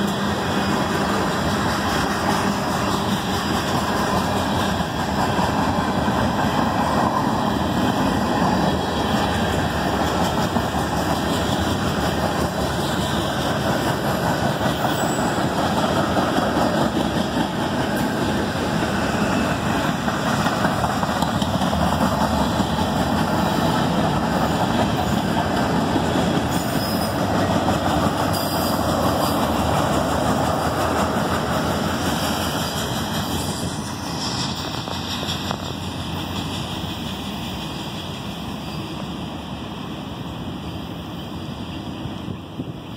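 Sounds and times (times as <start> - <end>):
freight train wheels on track: 0.0 - 42.9.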